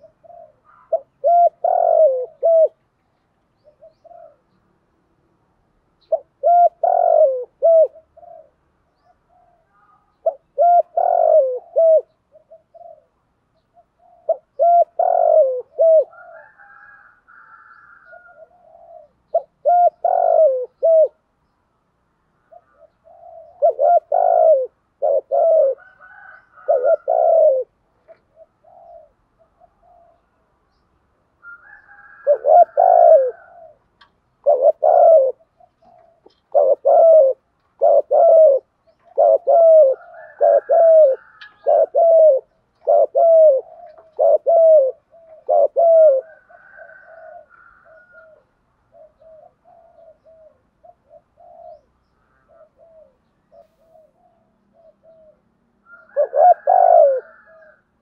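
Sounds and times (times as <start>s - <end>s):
dove cooing: 0.0s - 3.0s, 3.6s - 4.6s, 6.0s - 21.3s, 22.4s - 30.6s, 31.4s - 58.0s.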